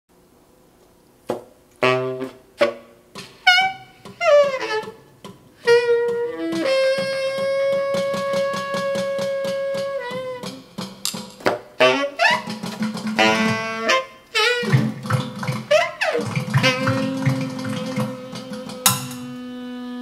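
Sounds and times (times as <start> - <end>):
tenor saxophone improvising: 1.8 - 10.8, 11.7 - 20.0.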